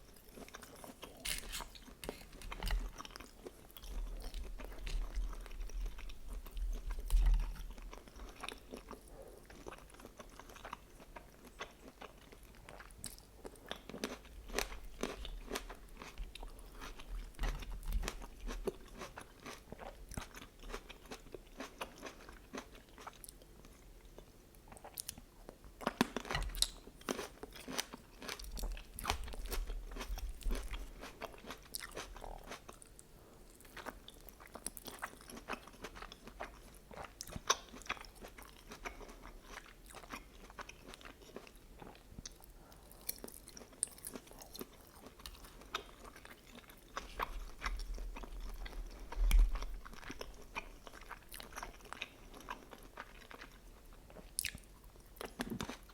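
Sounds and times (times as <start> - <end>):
crunchy chewing: 0.0 - 23.4, 25.8 - 55.9.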